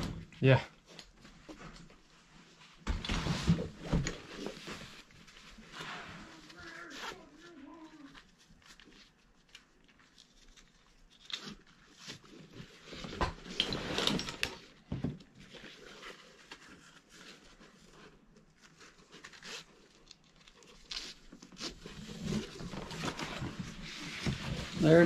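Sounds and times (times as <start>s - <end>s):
nylon straps rustling and scraping: 1.4s - 25.0s.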